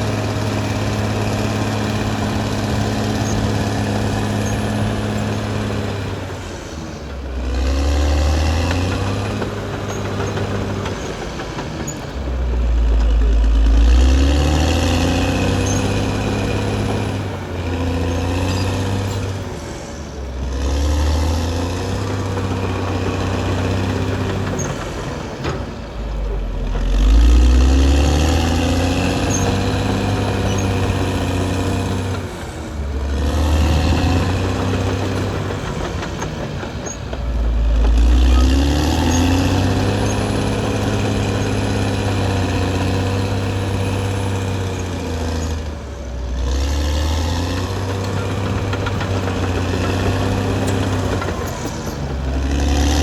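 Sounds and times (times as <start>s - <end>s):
bulldozer diesel engine revving: 0.0s - 53.0s.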